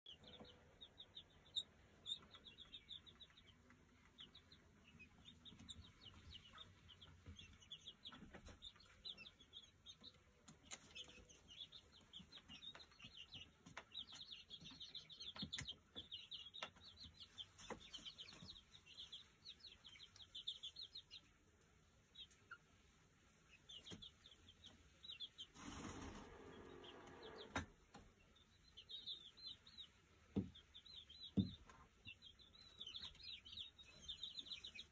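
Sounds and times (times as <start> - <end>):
chicks peeping: 0.0 - 34.9.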